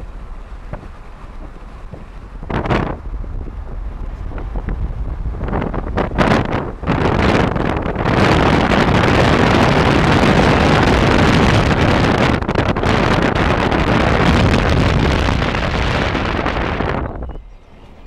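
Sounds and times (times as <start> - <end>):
car road noise: 0.0 - 18.0
wind rush on microphone: 0.0 - 18.0.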